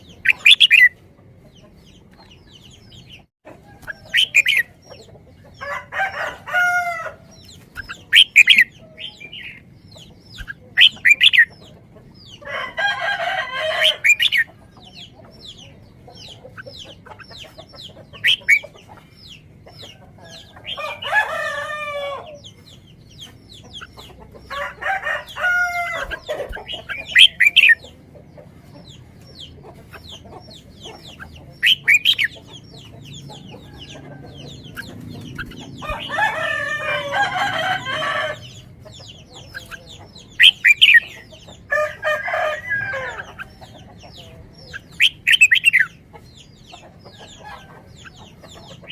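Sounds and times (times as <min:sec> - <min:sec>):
chickens drawn-out calls: 0:00.0 - 0:48.9.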